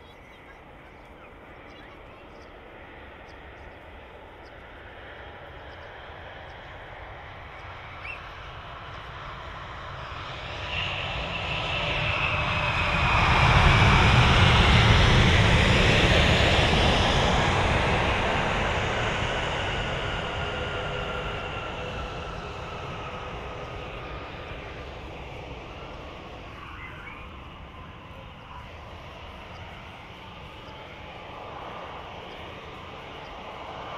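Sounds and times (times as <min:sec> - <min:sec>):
jet airliner passing: 0:00.0 - 0:33.9.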